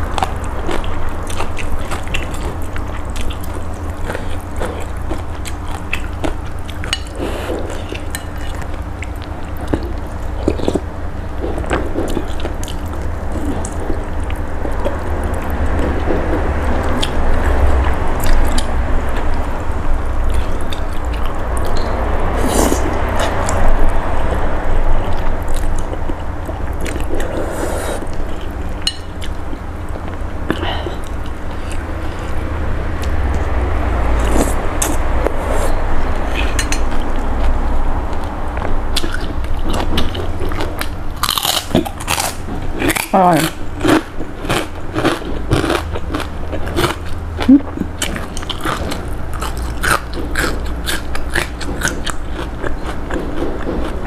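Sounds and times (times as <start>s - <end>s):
chewing: 0.0s - 32.4s, 34.2s - 54.0s
low steady hum: 0.0s - 54.0s.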